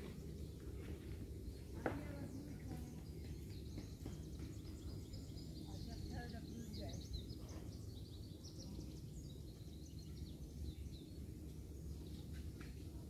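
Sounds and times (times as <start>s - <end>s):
low outdoor rumble: 0.0s - 13.0s
small birds chirping: 0.0s - 13.0s.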